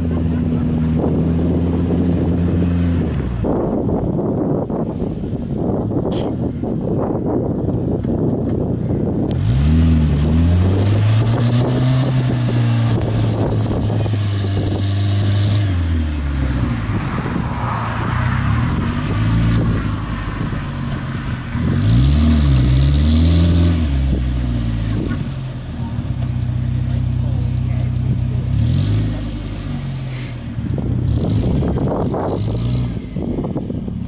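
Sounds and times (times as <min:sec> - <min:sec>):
truck engine revving: 0:00.0 - 0:04.5, 0:09.2 - 0:33.8.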